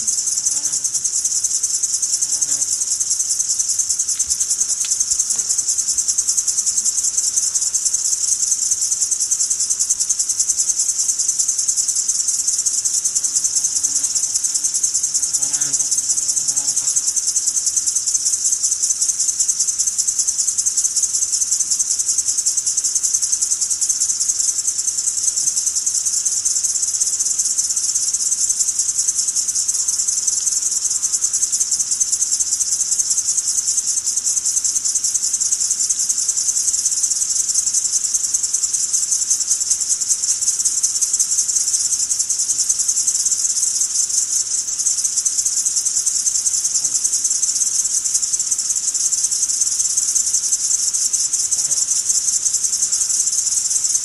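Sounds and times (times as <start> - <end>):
insect chorus buzzing drone: 0.0 - 54.0.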